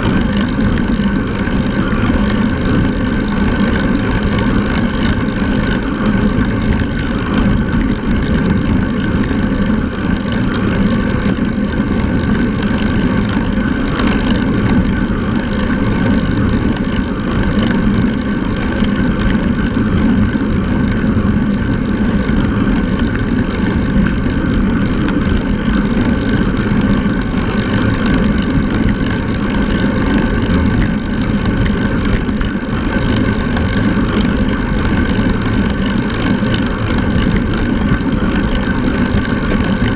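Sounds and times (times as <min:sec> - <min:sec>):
tyres rolling on asphalt: 0:00.0 - 0:39.9
wind buffeting microphone: 0:00.0 - 0:39.9.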